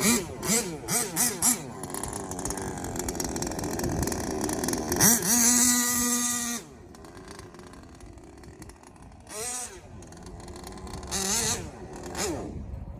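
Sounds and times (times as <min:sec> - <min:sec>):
engine throttle blips: 0:00.0 - 0:12.9
small gasoline engine idling: 0:00.0 - 0:12.9.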